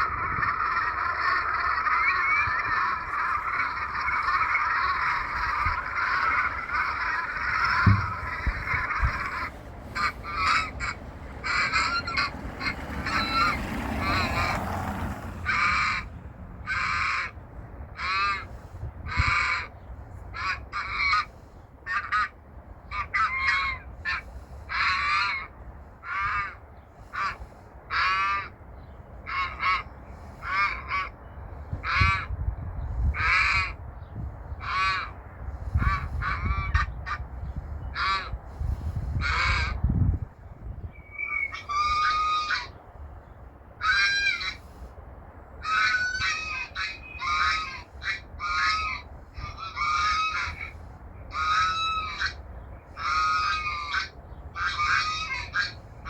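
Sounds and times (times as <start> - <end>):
geese honking: 0.0 - 17.4, 18.0 - 28.6, 29.2 - 32.3, 33.2 - 33.8, 34.6 - 39.8, 41.1 - 42.9, 43.8 - 44.9, 45.6 - 56.0.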